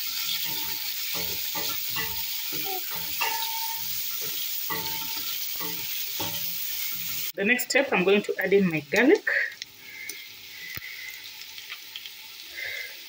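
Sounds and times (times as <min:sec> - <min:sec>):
meat and onions sizzling in oil: 0:00.0 - 0:13.0.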